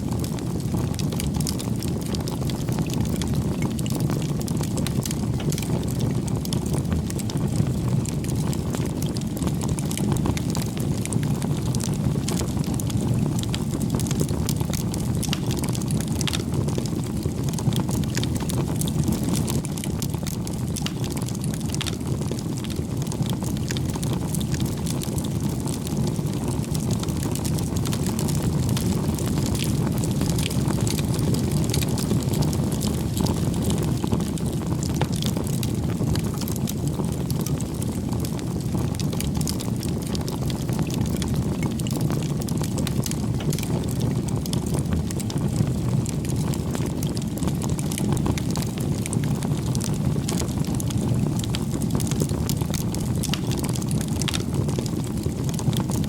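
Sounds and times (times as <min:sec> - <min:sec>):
flames rushing: 0:00.0 - 0:56.0
wood crackling and popping: 0:00.0 - 0:56.0.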